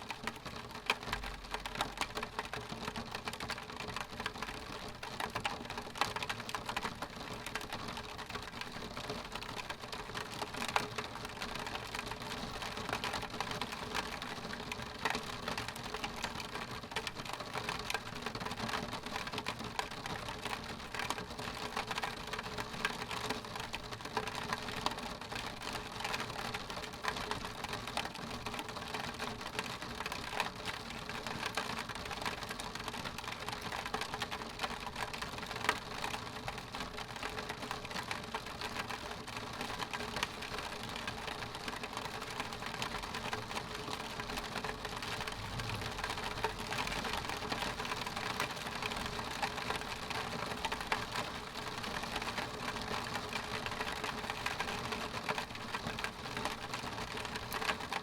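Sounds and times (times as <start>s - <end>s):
raindrops tapping on window glass: 0.0s - 58.0s.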